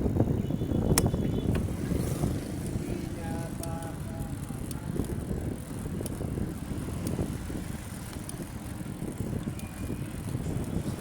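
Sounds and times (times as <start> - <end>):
bicycle tyres on road: 0.0 - 11.0
wind on microphone: 0.0 - 11.0.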